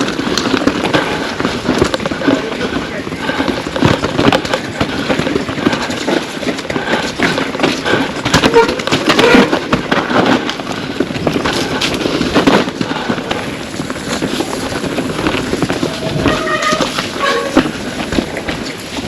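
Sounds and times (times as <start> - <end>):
mountain bike rattling on rough trail: 0.0 - 19.0.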